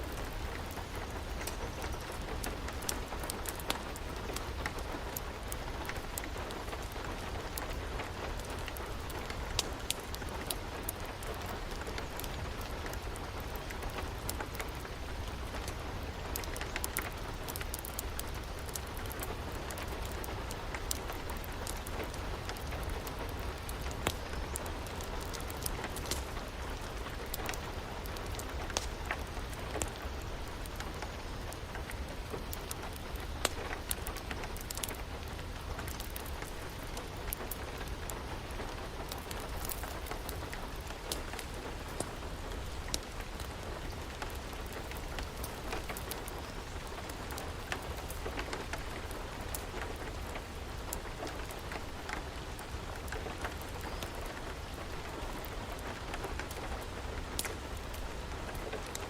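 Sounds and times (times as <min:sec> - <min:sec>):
steady rain: 0:00.0 - 0:59.0
wood fire crackling and popping: 0:00.0 - 0:59.0.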